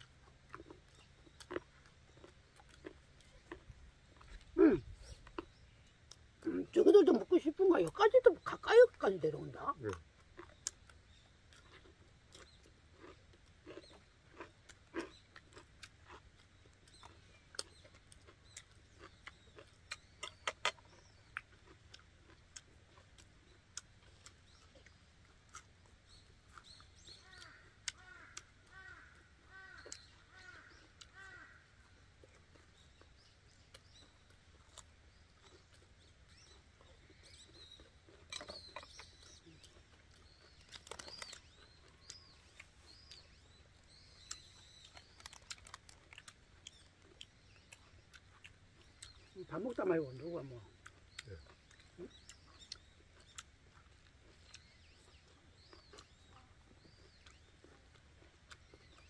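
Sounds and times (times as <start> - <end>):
birds chirping: 0.0 - 59.0
people chewing: 0.0 - 59.0.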